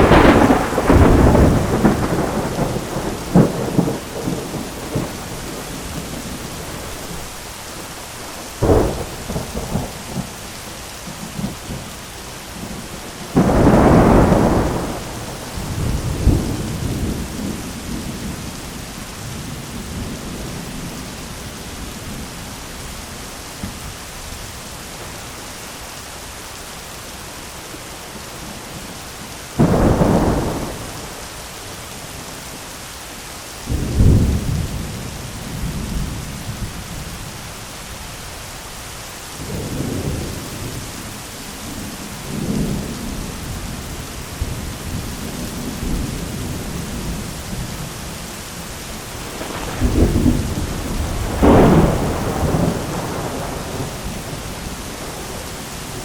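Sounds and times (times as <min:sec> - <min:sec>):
thunder rumbling: 0:00.0 - 0:22.6, 0:29.5 - 0:31.8, 0:33.7 - 0:37.7, 0:39.4 - 0:56.0
heavy rain on an umbrella: 0:00.0 - 0:56.0.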